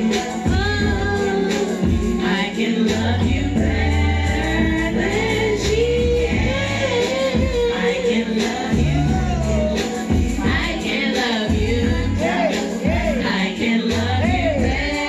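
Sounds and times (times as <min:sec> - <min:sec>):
backing track with bass: 0:00.0 - 0:15.0
women singing karaoke: 0:00.0 - 0:15.0.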